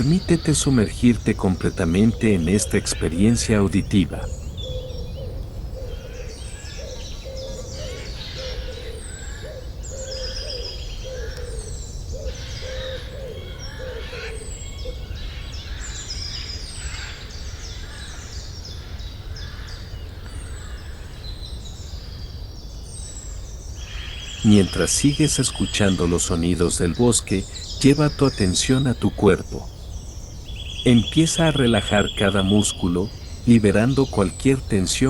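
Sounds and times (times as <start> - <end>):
low repeated bird call: 0.0 - 35.0
songbirds chirping and trilling: 0.0 - 35.0.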